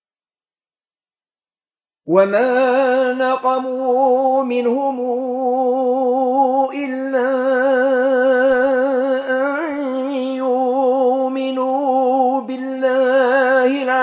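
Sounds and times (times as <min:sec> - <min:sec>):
man chanting melodically: 0:02.1 - 0:14.0.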